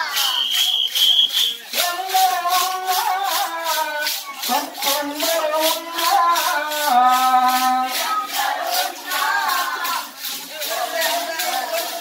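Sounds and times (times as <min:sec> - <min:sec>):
rattling shaker percussion: 0:00.0 - 0:12.0.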